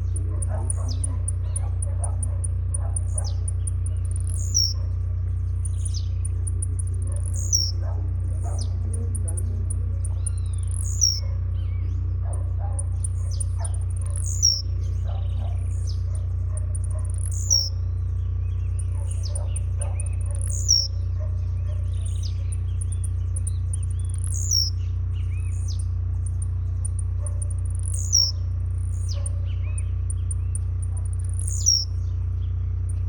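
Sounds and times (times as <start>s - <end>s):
bird singing buzzy calls: 0.0s - 33.0s
steady low hum: 0.0s - 33.0s.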